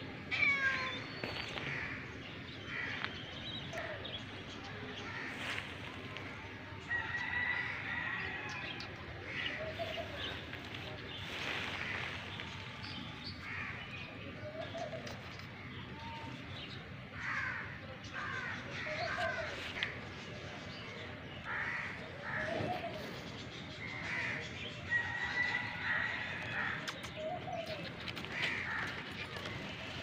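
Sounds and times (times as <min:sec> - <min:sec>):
birds calling: 0:00.0 - 0:06.3, 0:06.9 - 0:30.0.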